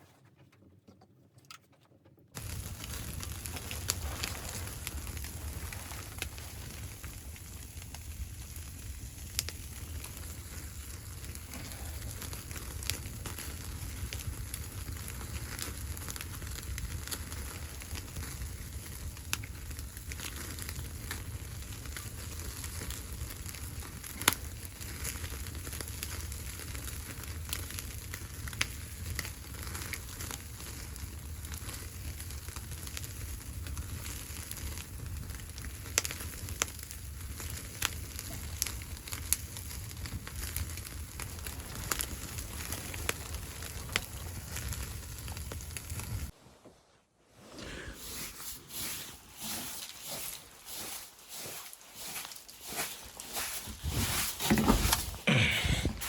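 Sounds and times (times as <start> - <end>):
wood fire crackling: 0.0 - 46.6, 47.5 - 56.0
fire popping: 2.3 - 46.4, 47.6 - 56.0.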